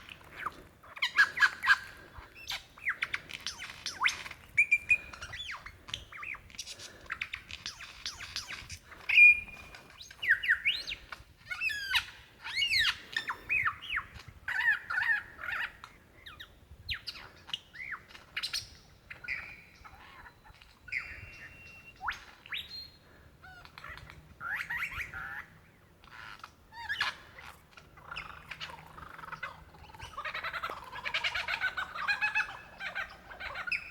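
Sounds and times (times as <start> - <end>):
lyrebird singing: 0.0 - 33.9.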